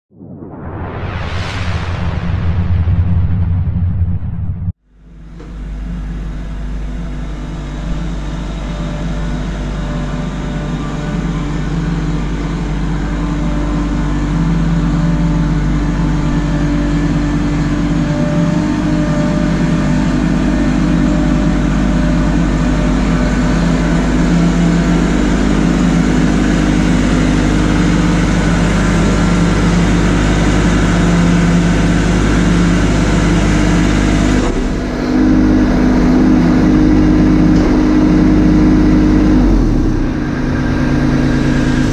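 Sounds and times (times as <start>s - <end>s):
tractor diesel engine approaching: 4.2s - 41.9s.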